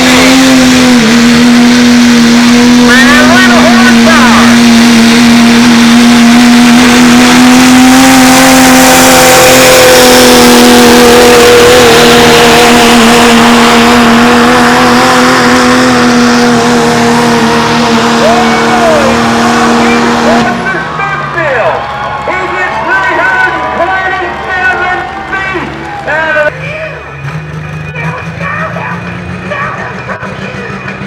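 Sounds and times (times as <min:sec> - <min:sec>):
truck engine running flat out: 0:00.0 - 0:31.0.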